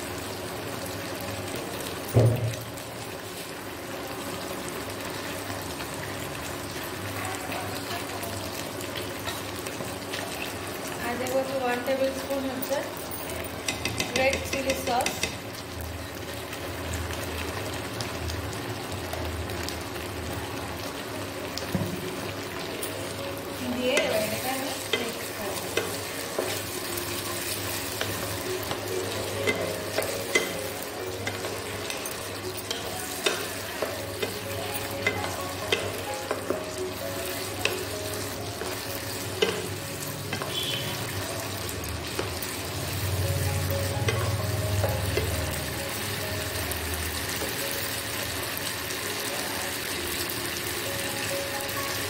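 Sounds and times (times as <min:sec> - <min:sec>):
vegetables sizzling in a wok: 0:00.0 - 0:52.0.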